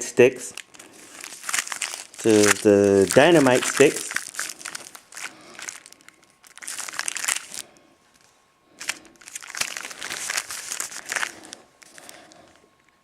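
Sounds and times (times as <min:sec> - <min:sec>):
packaging crinkling: 0:00.5 - 0:12.6.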